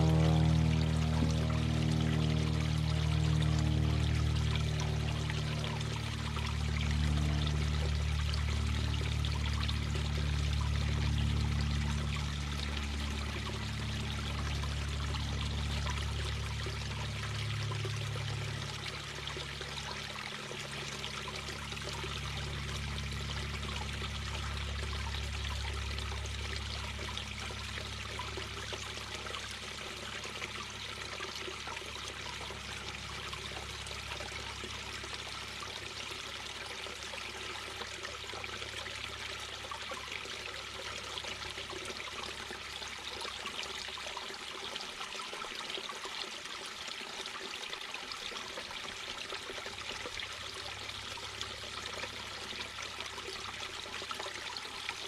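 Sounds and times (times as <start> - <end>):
low steady hum: 0.0 - 45.9
brook babbling over rocks: 0.0 - 55.0.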